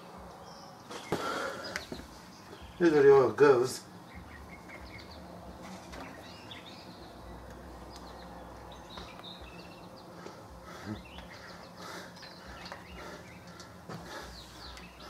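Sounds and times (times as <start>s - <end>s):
birds chirping: 0.0s - 15.0s
low steady hum: 0.0s - 15.0s.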